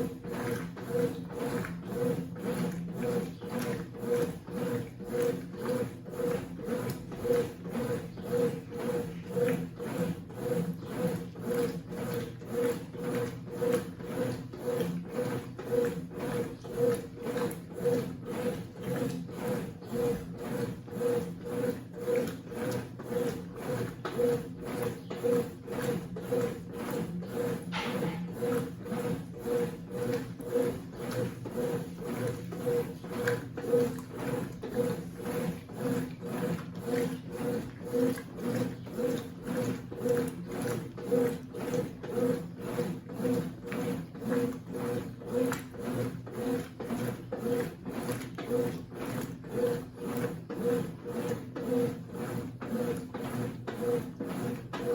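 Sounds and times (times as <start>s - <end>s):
washing machine drum churning: 0.0s - 54.9s.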